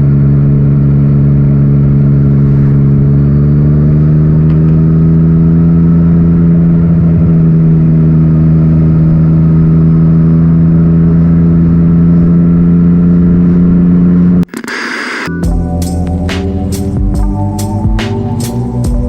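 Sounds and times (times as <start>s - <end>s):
motorcycle engine running: 0.0s - 14.5s, 15.4s - 19.0s.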